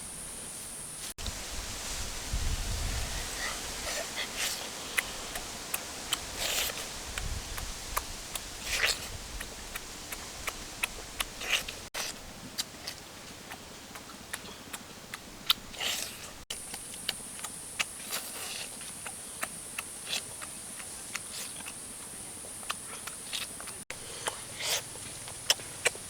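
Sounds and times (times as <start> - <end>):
chewing chicken wings: 3.4 - 26.0.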